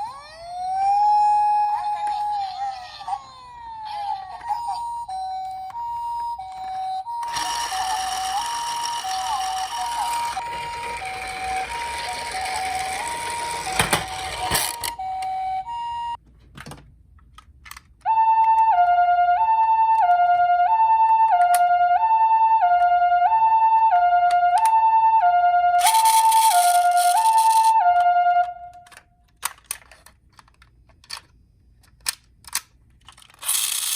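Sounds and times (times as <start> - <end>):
toy hi-lo siren: 0.0 - 16.2, 18.1 - 29.0, 33.4 - 33.9.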